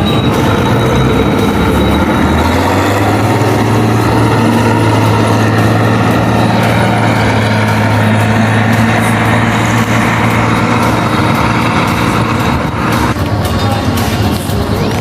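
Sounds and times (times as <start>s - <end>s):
diesel engine running loudly: 0.0s - 15.0s.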